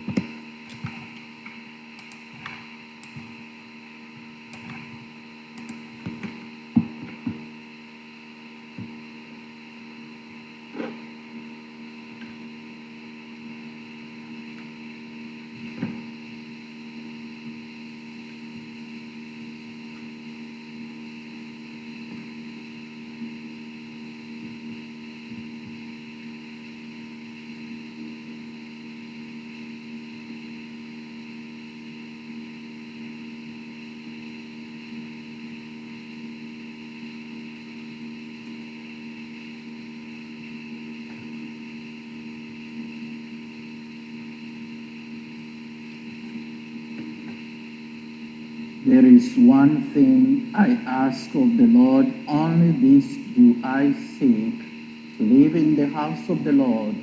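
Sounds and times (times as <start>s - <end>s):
electrical hum and buzz: 0.0s - 57.0s.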